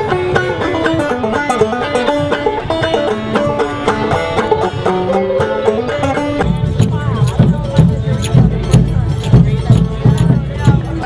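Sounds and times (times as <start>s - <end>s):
banjo picking a melody: 0.0s - 11.0s
music with heavy low end: 0.0s - 11.0s.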